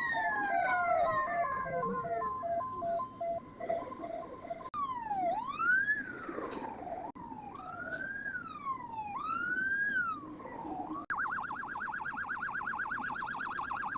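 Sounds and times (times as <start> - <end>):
fire truck siren: 0.0 - 13.9.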